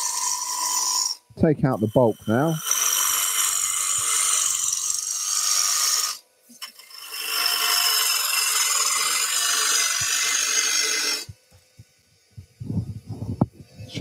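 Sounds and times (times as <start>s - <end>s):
gouge cutting wood on lathe: 0.0s - 11.3s.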